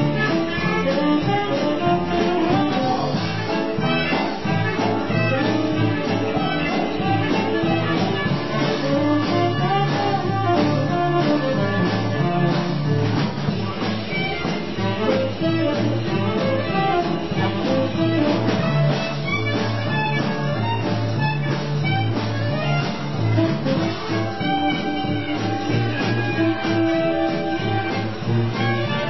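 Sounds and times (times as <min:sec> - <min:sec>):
drums: 0:00.0 - 0:29.0
horns: 0:00.0 - 0:29.0
piano: 0:00.0 - 0:29.0
plucked double bass: 0:00.0 - 0:29.0.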